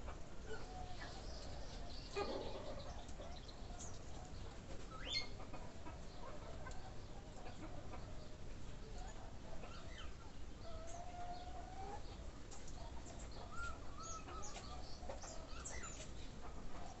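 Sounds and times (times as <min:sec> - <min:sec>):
birds chirping and calling: 0:00.1 - 0:17.0.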